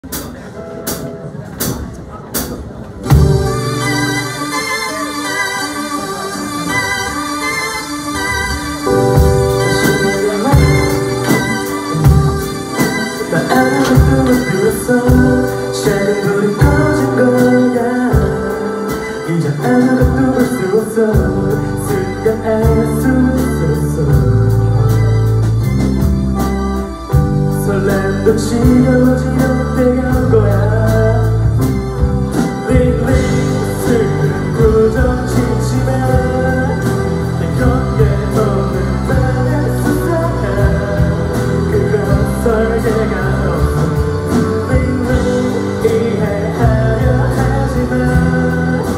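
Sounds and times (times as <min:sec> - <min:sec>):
live rock band playing: 0:00.0 - 0:48.9
person singing: 0:03.1 - 0:25.4, 0:26.8 - 0:48.9.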